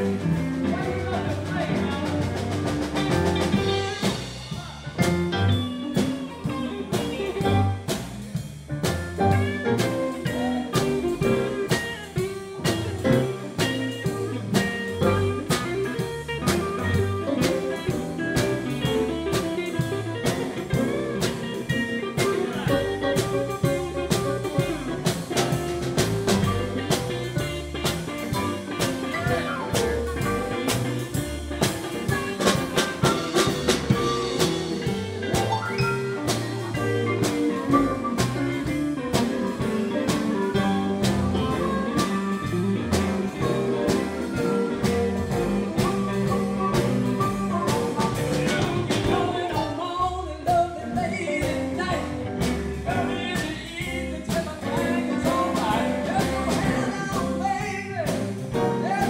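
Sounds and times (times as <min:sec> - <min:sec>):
drum kit beat with cymbals: 0:00.0 - 0:59.0
electric guitar: 0:00.0 - 0:59.0
keyboard: 0:00.0 - 0:59.0.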